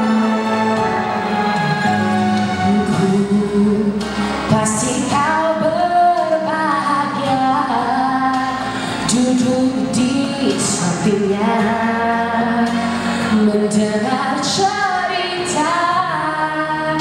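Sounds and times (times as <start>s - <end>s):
recorded backing music: 0.0s - 17.0s
woman singing into a microphone: 1.4s - 17.0s.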